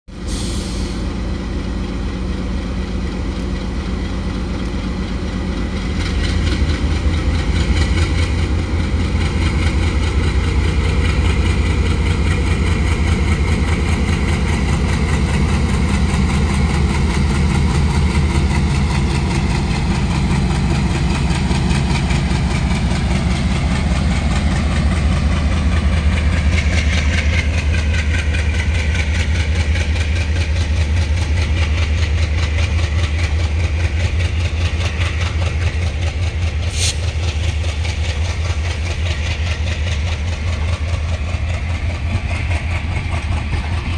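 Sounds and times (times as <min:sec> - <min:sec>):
diesel locomotive engine chugging: 0:00.1 - 0:43.9.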